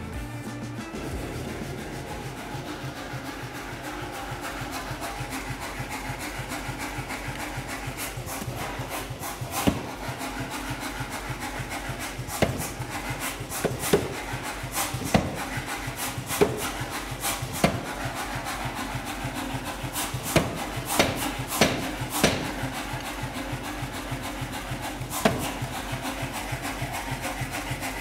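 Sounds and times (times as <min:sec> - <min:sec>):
low pulsing hum: 0:00.0 - 0:28.0
power hammer striking metal: 0:00.9 - 0:28.0.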